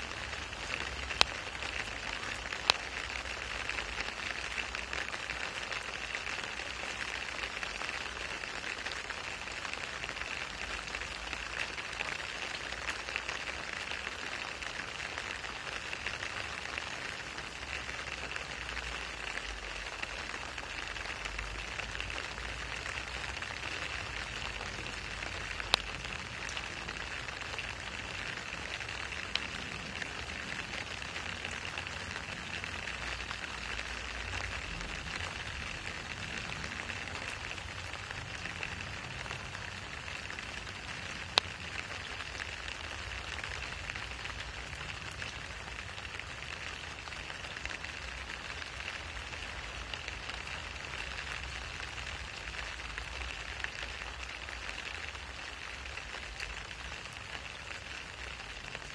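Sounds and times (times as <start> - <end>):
steady rain on wet asphalt: 0.0 - 58.9.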